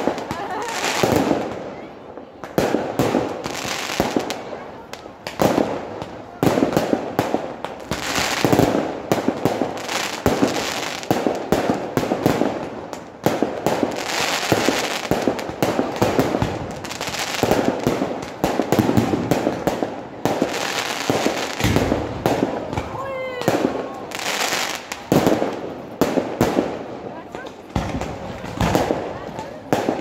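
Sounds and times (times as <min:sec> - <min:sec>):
fireworks banging and crackling: 0:00.0 - 0:30.0.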